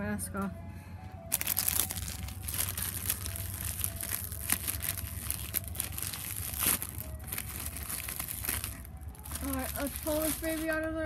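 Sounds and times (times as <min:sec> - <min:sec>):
plastic wrapper crinkling: 0:01.3 - 0:11.0.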